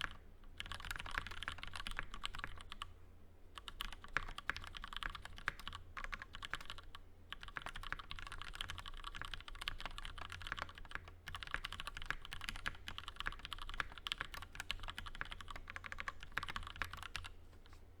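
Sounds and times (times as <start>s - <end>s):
fast typing on mechanical keyboard: 0.0s - 2.9s, 3.6s - 17.3s.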